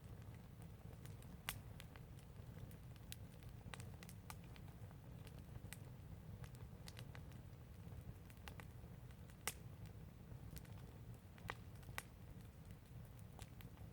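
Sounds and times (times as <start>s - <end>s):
fire crackling and popping: 0.0s - 13.9s.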